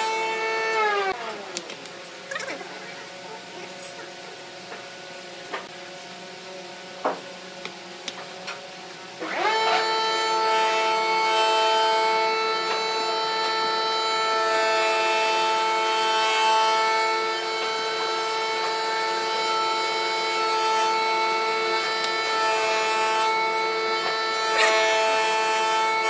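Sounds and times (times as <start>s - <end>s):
machine whine: 0.0s - 26.0s.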